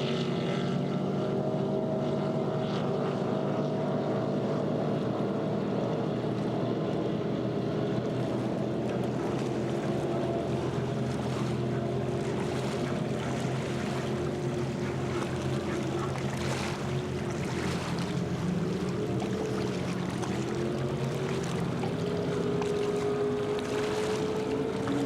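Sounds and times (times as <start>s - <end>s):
race boat engines running: 0.0s - 25.0s.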